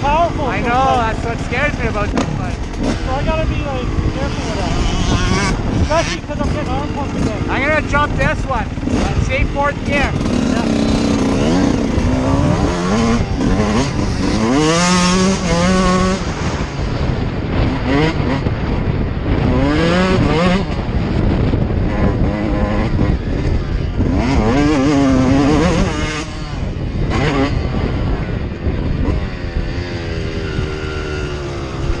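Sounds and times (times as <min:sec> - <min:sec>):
constant rushing noise: 0:00.0 - 0:32.0
dirt bike engine revving: 0:00.0 - 0:32.0.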